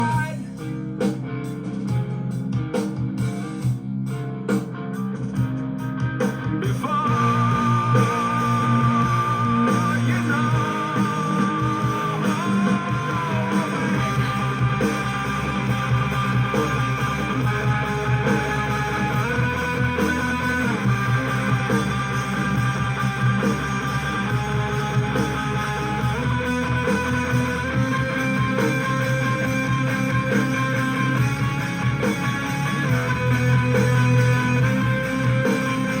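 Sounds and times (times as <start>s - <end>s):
guitar instrumental with bass: 0.0s - 36.0s.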